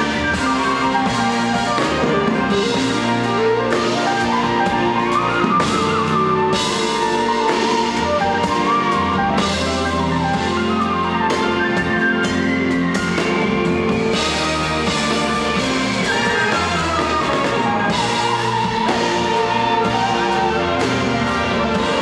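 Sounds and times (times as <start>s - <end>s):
drum kit beat: 0.0s - 22.0s
organ playing: 0.0s - 22.0s
sliding melody line: 0.0s - 22.0s.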